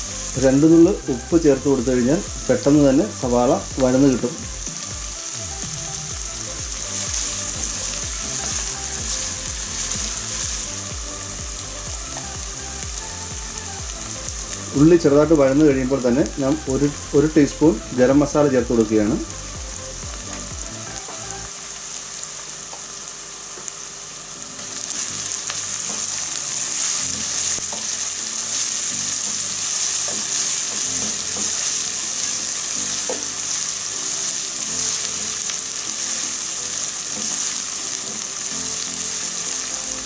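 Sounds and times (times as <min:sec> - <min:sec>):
onions sizzling in oil: 0:00.0 - 0:40.0.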